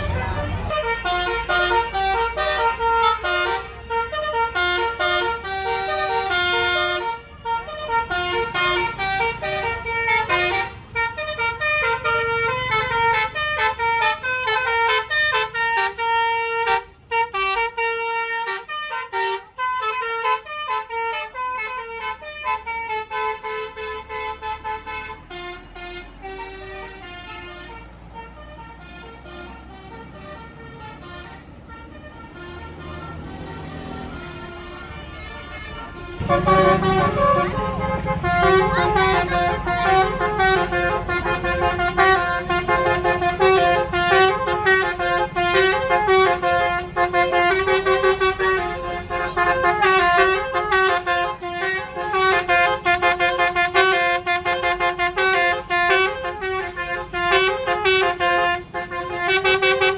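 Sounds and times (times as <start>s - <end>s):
musical bus air horn tune: 0.0s - 59.9s.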